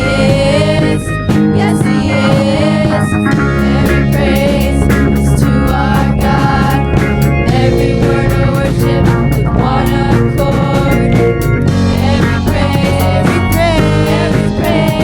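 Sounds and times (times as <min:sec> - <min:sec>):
band music with drums and guitar: 0:00.0 - 0:15.0.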